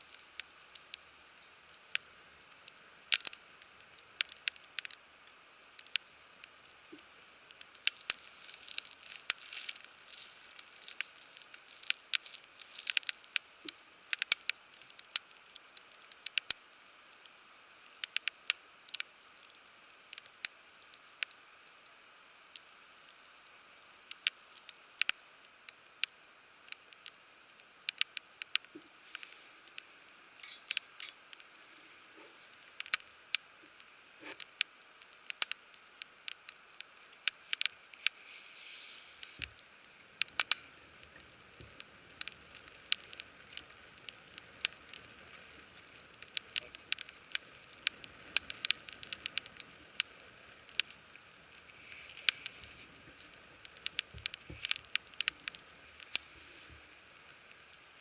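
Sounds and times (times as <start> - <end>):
campfire crackling and popping: 0.0 - 58.0
faint steady hiss: 0.0 - 58.0.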